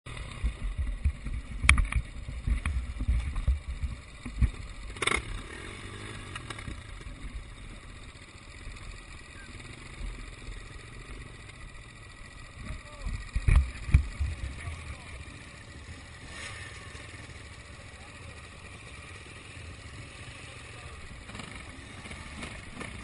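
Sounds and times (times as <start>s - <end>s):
distant motorcycle engines droning: 0.1s - 23.0s.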